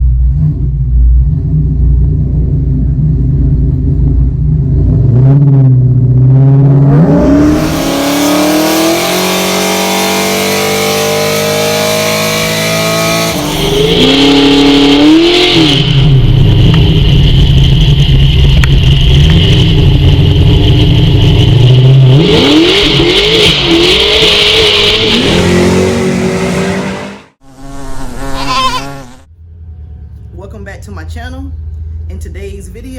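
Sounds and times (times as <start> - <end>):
car engine accelerating through gears: 0.0 - 30.3.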